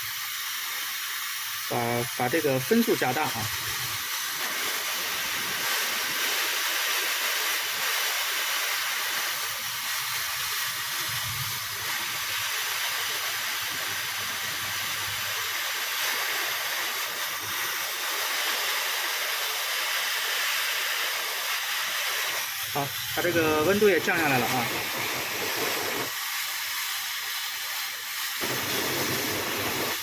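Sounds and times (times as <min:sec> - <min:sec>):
hair dryer blowing: 0:01.7 - 0:30.0.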